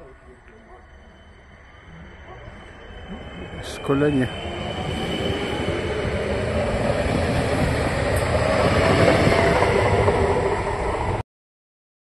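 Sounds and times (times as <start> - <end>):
electric train running: 0.0 - 11.2
faint train whine: 0.0 - 11.2.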